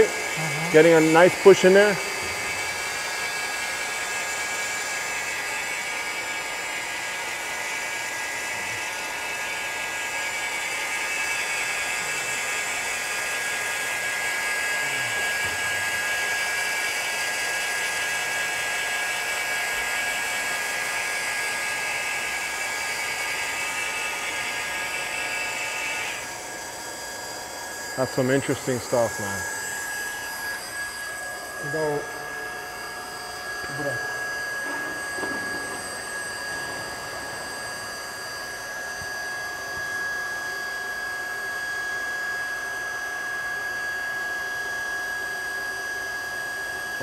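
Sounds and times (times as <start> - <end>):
plastic welding gun whining: 0.0 - 40.9.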